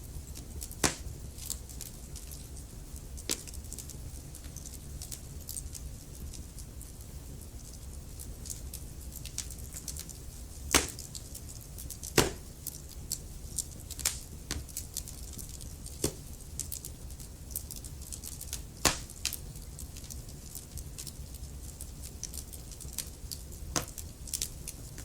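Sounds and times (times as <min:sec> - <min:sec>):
low rumble of flame: 0:00.0 - 0:25.0
wood fire crackling: 0:00.0 - 0:25.0
fire pops: 0:00.2 - 0:06.9, 0:07.5 - 0:25.0.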